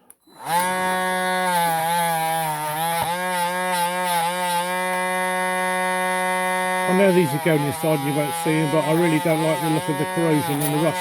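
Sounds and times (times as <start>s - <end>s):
electric rotary tool whining: 0.0s - 11.0s.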